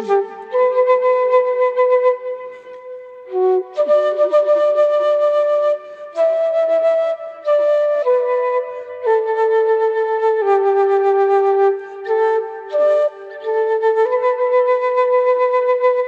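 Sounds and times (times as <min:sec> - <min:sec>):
slow flute melody: 0:00.0 - 0:16.0.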